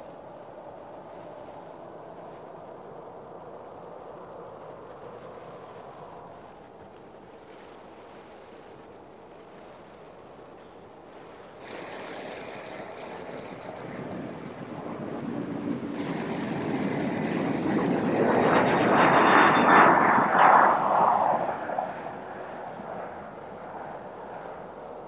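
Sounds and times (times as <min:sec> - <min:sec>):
jet engines roaring with fan whine: 0:00.0 - 0:25.0.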